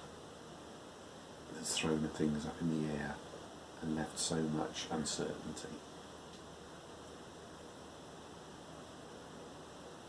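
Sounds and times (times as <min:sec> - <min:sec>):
room tone hiss: 0:00.0 - 0:10.0.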